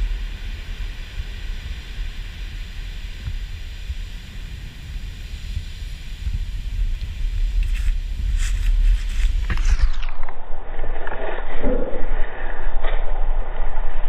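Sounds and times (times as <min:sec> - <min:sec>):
wind gusting on microphone: 0:00.0 - 0:14.0.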